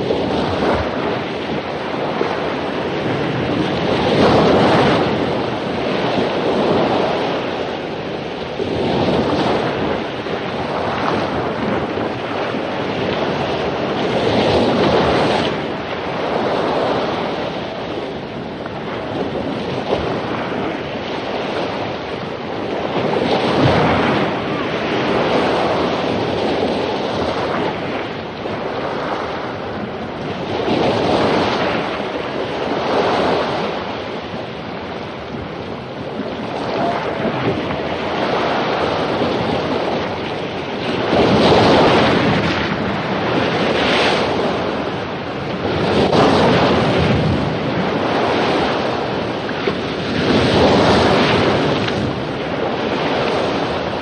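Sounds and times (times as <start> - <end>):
ocean waves breaking on beach: 0.0 - 54.0
wind noise: 0.0 - 54.0.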